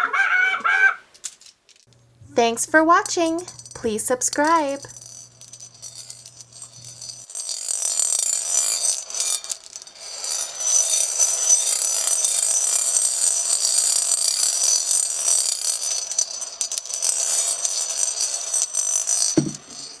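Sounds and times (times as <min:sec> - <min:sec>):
gumballs rattling with whir: 0:02.5 - 0:20.0.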